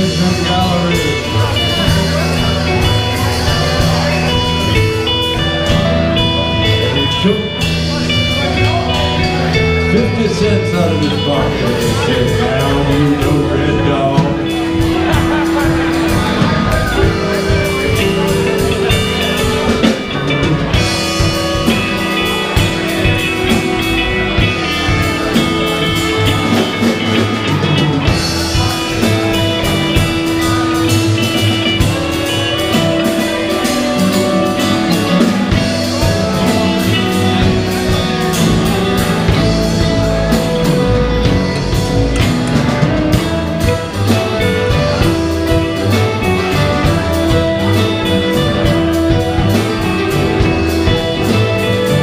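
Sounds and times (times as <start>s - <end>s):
drum kit: 0.0s - 52.0s
guitar: 0.0s - 52.0s
upright bass: 0.0s - 52.0s.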